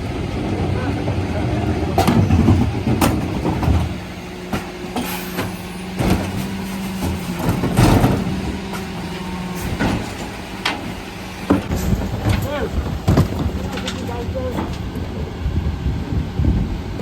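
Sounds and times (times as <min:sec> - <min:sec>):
refuse truck mechanical hum: 0:00.0 - 0:17.0.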